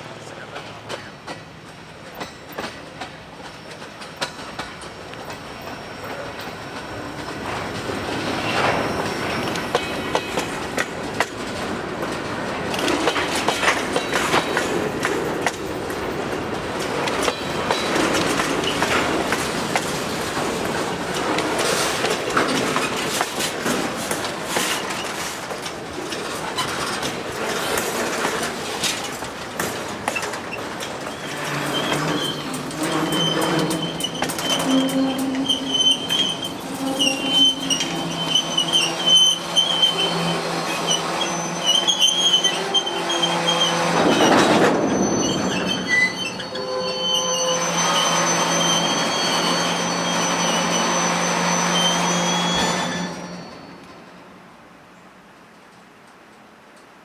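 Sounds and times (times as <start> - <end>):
freight train wheels clacking: 0.0 - 54.3.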